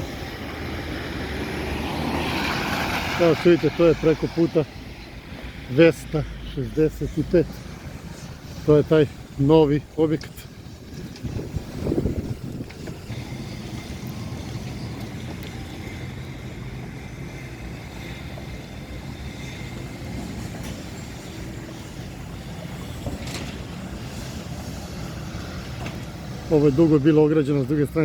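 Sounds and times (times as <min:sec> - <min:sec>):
road traffic hum: 0:00.0 - 0:28.0.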